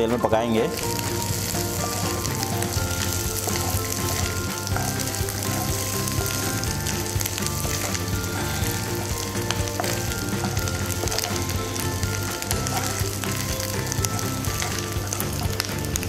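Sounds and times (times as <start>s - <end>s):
background music: 0.0s - 16.0s
food sizzling in oil: 0.6s - 16.0s
wooden spatula stirring in pan: 0.7s - 16.0s.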